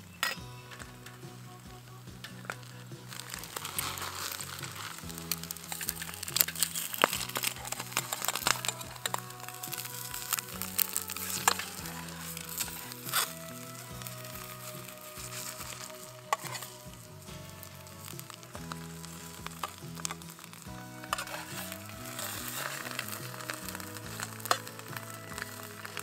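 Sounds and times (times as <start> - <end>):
omelet sizzling in a pan: 0.0 - 26.0.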